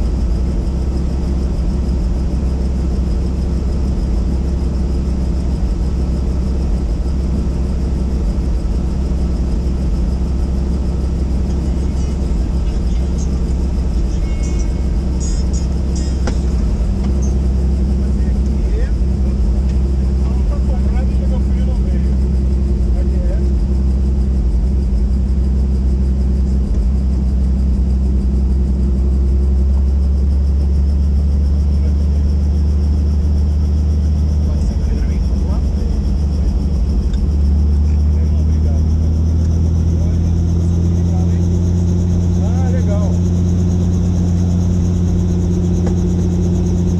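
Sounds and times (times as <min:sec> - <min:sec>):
helicopter rotor and engine drone: 0:00.0 - 0:46.9
turbine whine: 0:00.0 - 0:46.9.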